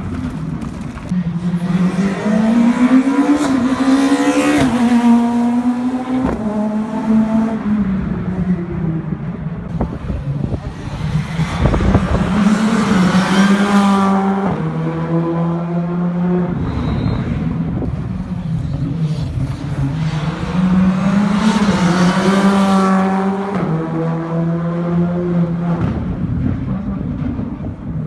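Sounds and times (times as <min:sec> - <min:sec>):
rally car passing at full throttle: 0:00.0 - 0:28.0.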